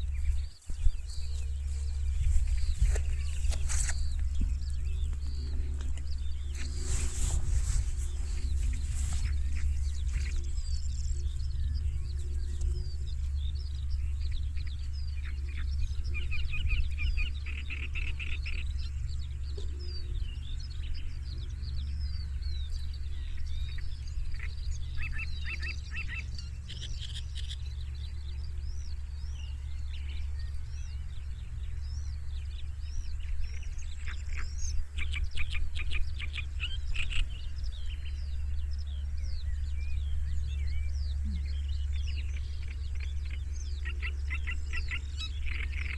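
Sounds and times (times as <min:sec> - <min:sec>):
songbirds chirping and trilling: 0:00.0 - 0:45.9
steady low hum: 0:00.0 - 0:45.9.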